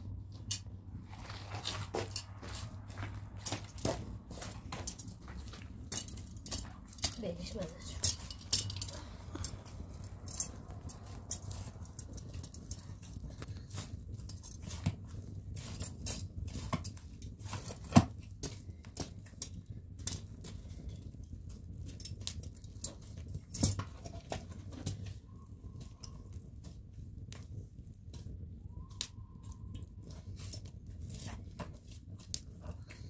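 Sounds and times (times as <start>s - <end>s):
dough kneaded in metal bowl: 0.0s - 33.0s
wood fire crackling and popping: 0.0s - 33.0s.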